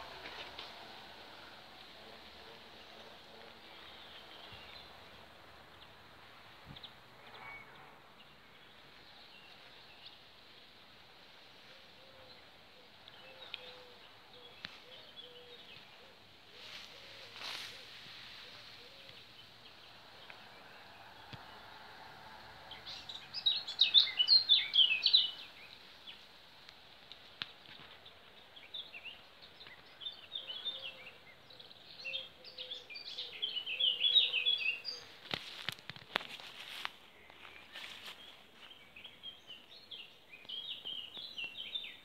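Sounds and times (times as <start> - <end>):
background hiss: 0.0 - 42.0
songbird chirping: 0.0 - 42.0.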